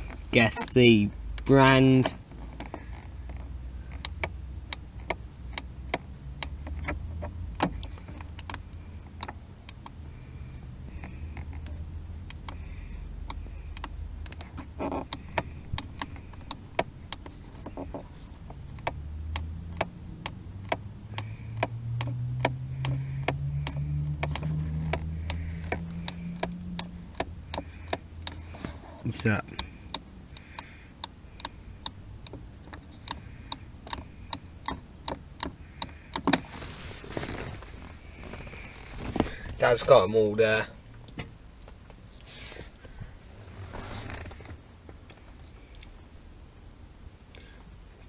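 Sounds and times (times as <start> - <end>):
car engine rumble: 0.0 - 48.0.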